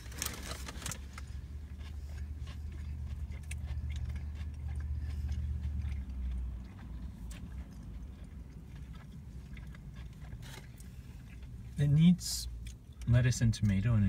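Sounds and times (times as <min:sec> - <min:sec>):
small crunches: 0:00.0 - 0:11.5
person chewing food: 0:00.0 - 0:13.2.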